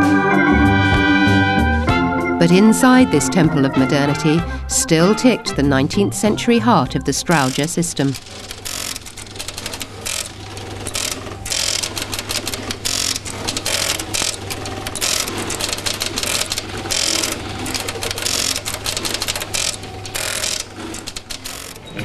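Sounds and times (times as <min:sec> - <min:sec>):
telephone exchange selectors clicking: 0:03.9 - 0:22.0.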